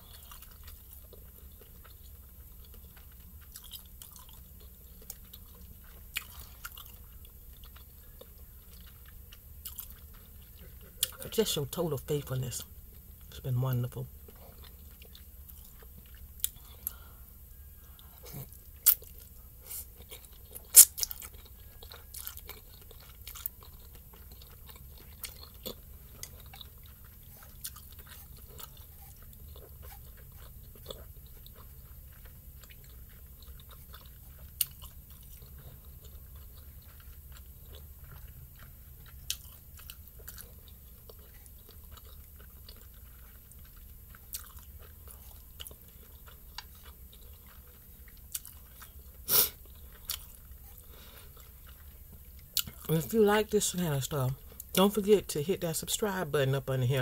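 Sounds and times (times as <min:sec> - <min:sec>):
wet chewing of noodles: 0:00.0 - 0:55.0
low steady hum: 0:00.0 - 0:57.0.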